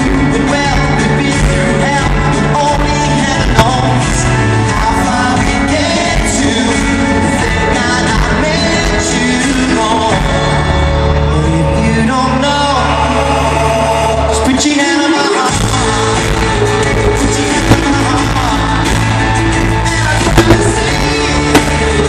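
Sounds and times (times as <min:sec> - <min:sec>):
man singing into microphone: 0:00.0 - 0:22.0
pop backing music: 0:00.0 - 0:22.0.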